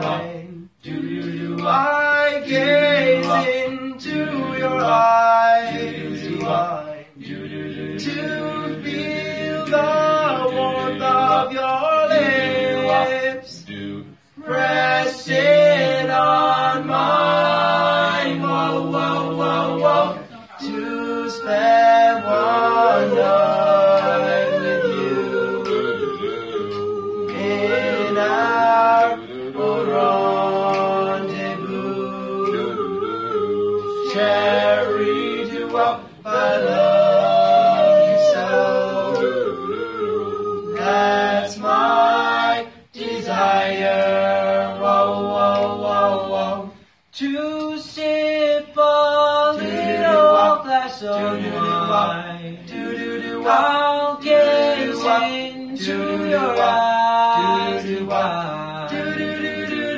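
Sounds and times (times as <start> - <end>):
male voices singing in harmony: 0.0 - 59.9.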